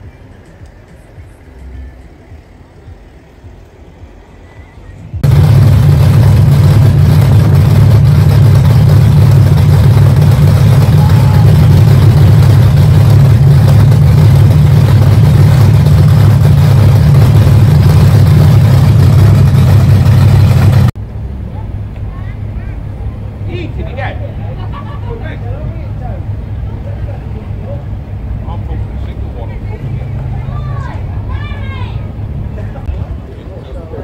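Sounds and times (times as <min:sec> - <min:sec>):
big engine deep rumble: 0:00.0 - 0:34.0.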